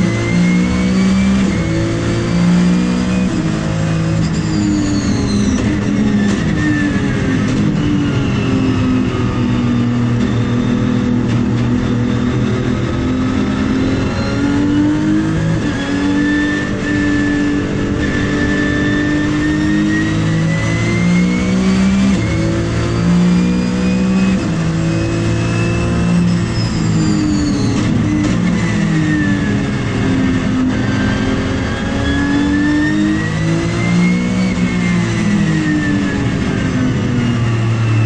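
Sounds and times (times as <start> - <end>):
gear changes: 0.0 - 38.0
racing car engine revving: 0.0 - 38.0.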